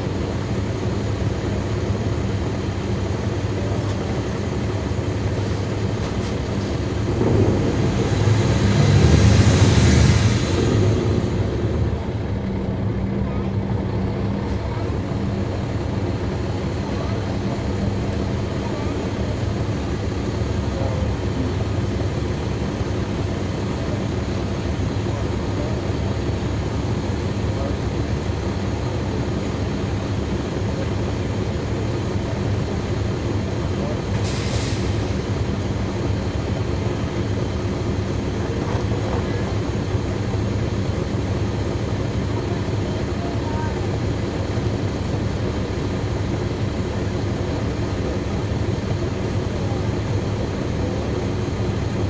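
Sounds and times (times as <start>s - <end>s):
bus diesel engine running: 0.0s - 52.0s.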